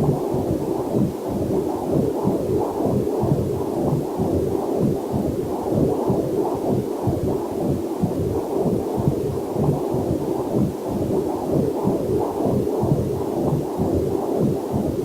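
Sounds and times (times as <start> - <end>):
whooshing heartbeat on doppler monitor: 0.0 - 15.0.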